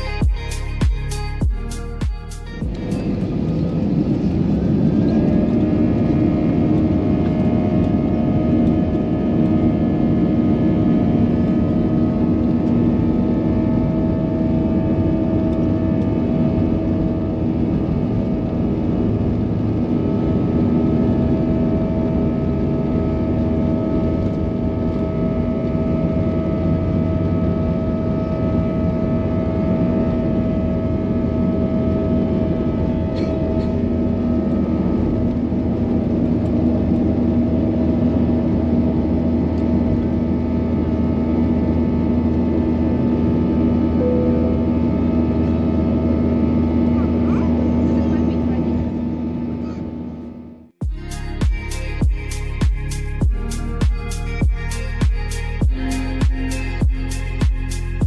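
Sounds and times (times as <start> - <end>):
jet engine whine: 2.4 - 58.0
jet engine roar: 2.6 - 50.4.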